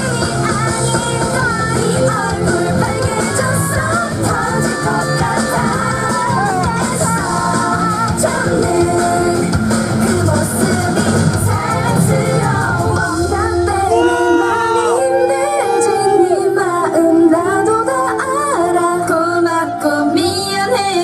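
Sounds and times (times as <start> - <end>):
pop song through loudspeakers: 0.0 - 21.0
woman singing into a microphone: 0.0 - 21.0.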